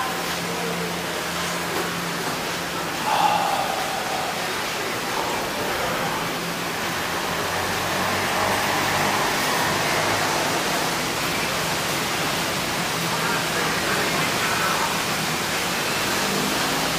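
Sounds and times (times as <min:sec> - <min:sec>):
steady rushing background noise: 0:00.0 - 0:16.9.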